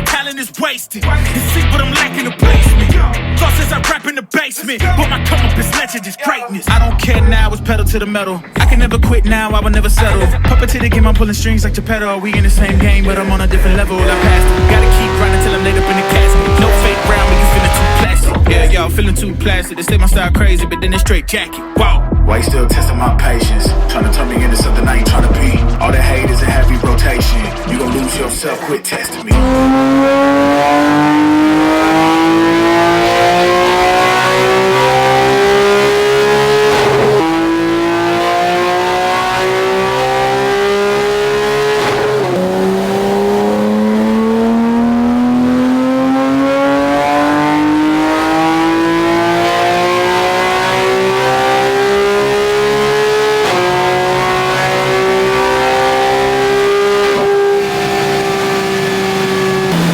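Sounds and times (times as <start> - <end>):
sports car engine accelerating: 1.0 - 4.0, 4.8 - 5.8, 6.7 - 59.9.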